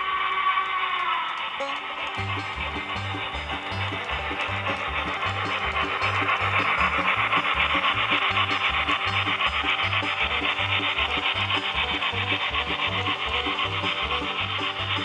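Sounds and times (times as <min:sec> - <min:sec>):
model steam locomotive chuffing: 0:00.0 - 0:15.0
low rhythmic thumps: 0:01.7 - 0:15.0.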